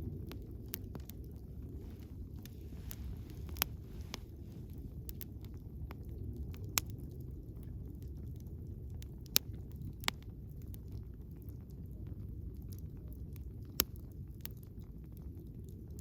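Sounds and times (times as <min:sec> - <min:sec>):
firewood popping and crackling: 0:00.0 - 0:16.0
low rumble of flames: 0:00.0 - 0:16.0.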